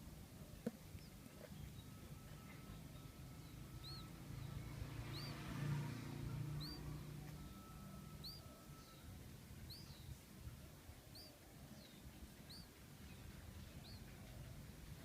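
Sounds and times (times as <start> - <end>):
low hum: 0.0 - 15.0
nestling birds chirping: 0.0 - 15.0.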